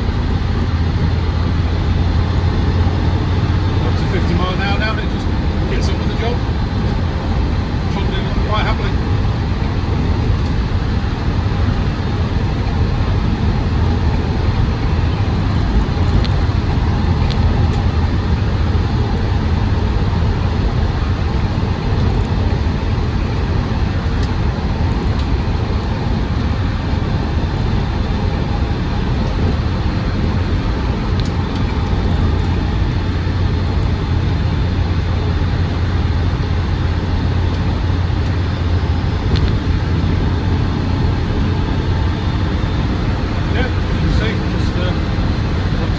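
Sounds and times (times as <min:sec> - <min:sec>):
diesel engine drone: 0:00.0 - 0:45.9
road noise: 0:00.0 - 0:45.9.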